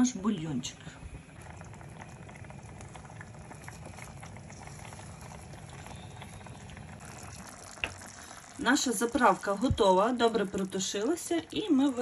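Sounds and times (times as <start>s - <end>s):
broth bubbling in a pot: 0.0s - 12.0s.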